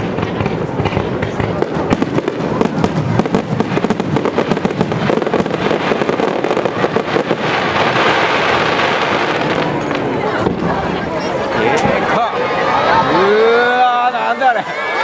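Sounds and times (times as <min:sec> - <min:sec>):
fireworks exploding: 0:00.0 - 0:13.1.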